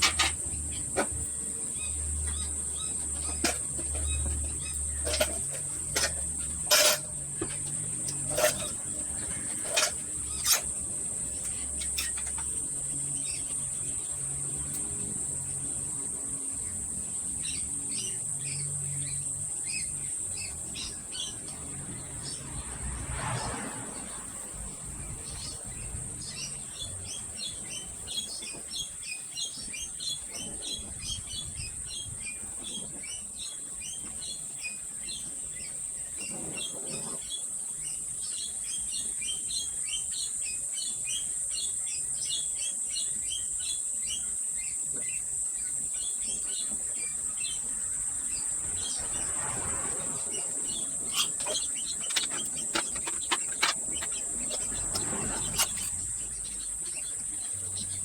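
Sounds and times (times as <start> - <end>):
small birds chirping: 0.0 - 22.7, 24.0 - 58.0.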